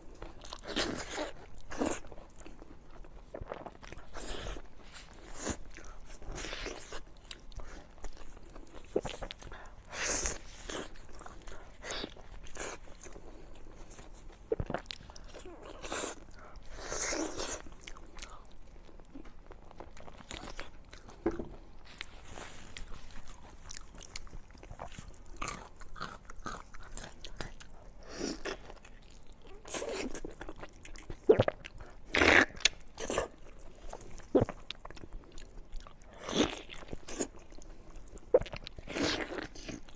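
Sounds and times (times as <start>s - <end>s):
chewing and crunching bone meat: 0.0s - 39.9s.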